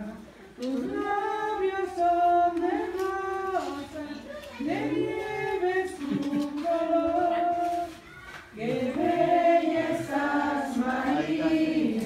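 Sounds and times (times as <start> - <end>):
voices singing a hymn: 0.0 - 12.0.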